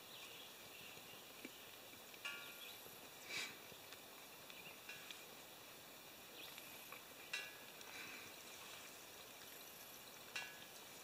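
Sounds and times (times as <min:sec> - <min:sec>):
woodland ambience: 0:00.0 - 0:11.0.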